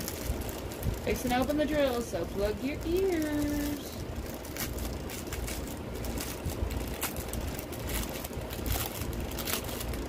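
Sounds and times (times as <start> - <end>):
low rumble of handling noise: 0.0 - 10.0
plastic packaging crinkling: 0.0 - 10.0.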